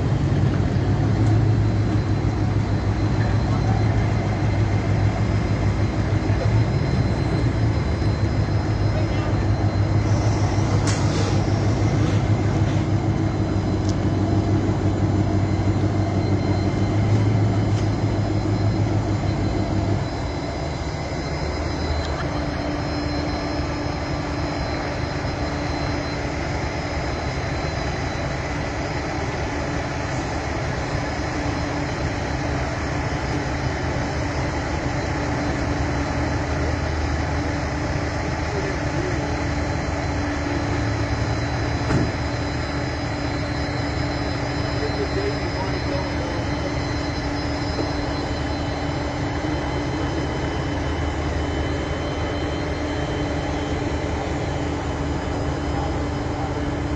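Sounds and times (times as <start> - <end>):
vehicle engine rumble: 0.0 - 56.9.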